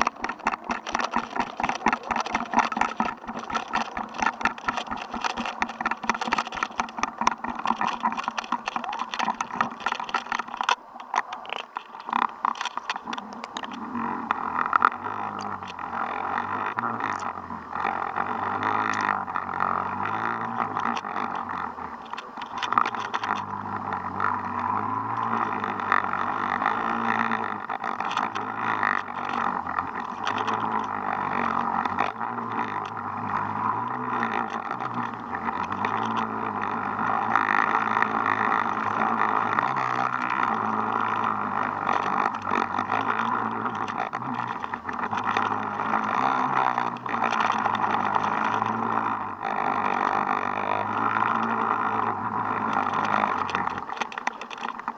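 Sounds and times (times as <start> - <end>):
boat engine drone underwater: 0.0 - 54.9
small clicks: 0.0 - 54.9.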